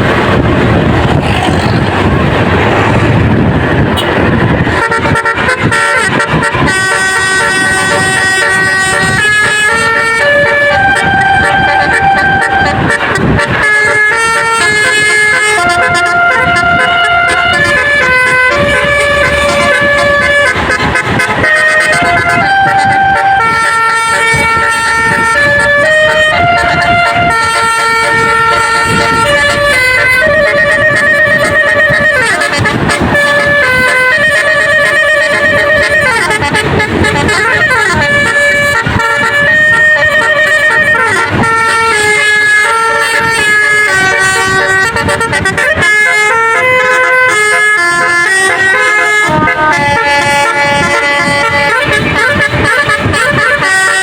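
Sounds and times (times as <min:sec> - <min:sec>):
musical bus horn melody: 0:00.0 - 0:54.0.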